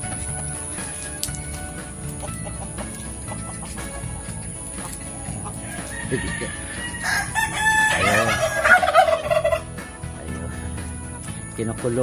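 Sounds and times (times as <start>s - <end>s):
background music: 0.0s - 12.0s
chickens clucking: 0.0s - 12.0s.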